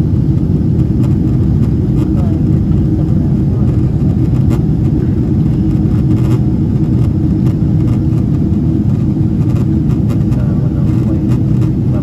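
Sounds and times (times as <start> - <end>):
air rushing along fuselage: 0.0 - 12.0
airplane cabin engine roar: 0.0 - 12.0.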